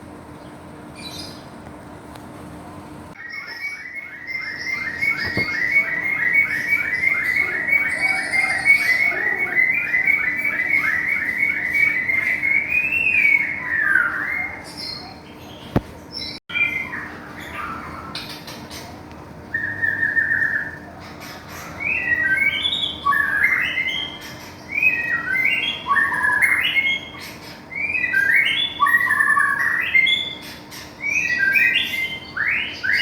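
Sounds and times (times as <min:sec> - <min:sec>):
songbird singing: 0:00.3 - 0:01.6, 0:03.1 - 0:33.0.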